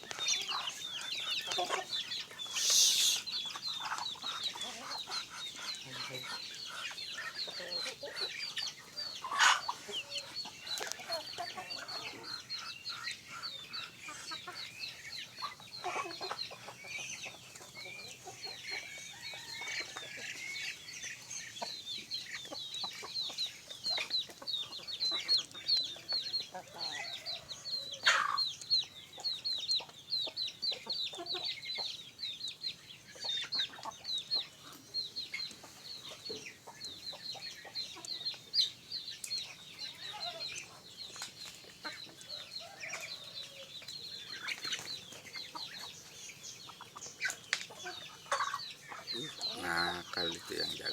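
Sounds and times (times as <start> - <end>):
chickens clucking and calling: 0.0 - 50.9.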